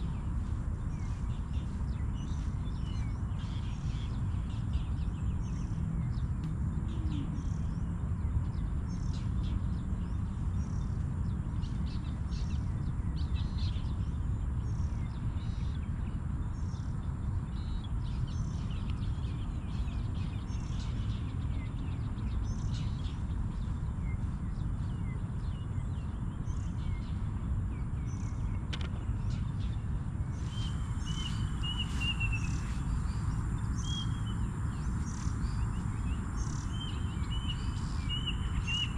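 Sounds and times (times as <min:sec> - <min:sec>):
birds chirping: 0:00.0 - 0:38.9
steady low rumble: 0:00.0 - 0:38.9.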